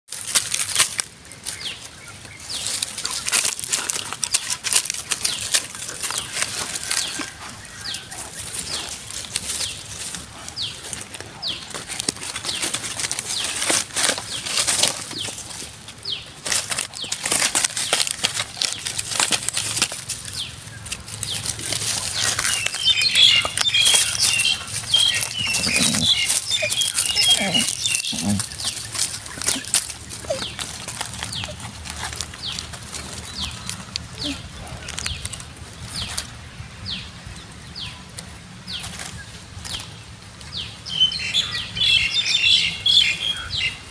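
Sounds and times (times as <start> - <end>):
dry leaves rustling and crackling: 0.1 - 43.9.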